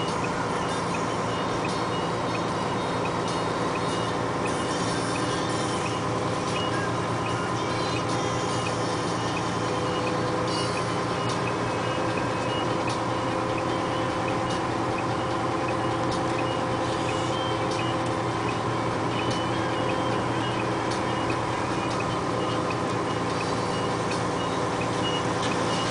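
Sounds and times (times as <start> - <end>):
diesel truck engine droning: 0.0 - 25.9.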